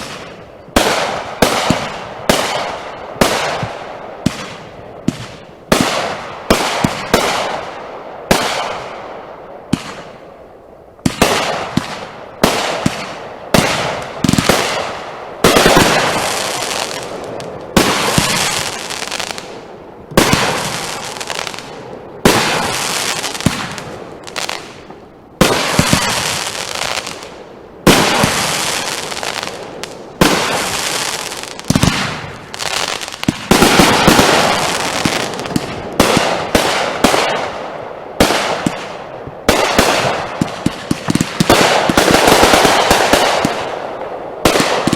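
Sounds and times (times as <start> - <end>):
firework bangs: 0.0 - 10.2, 11.0 - 44.9.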